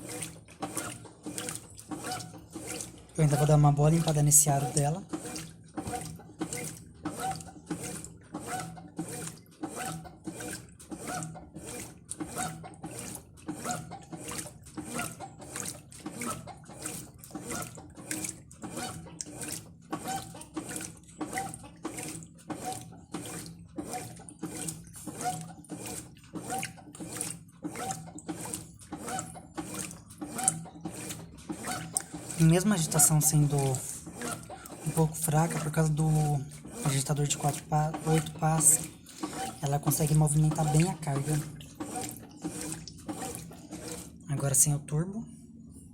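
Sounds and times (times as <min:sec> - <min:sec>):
motor hum: 0:00.0 - 0:45.9
washing machine agitator swishing water: 0:00.0 - 0:45.9.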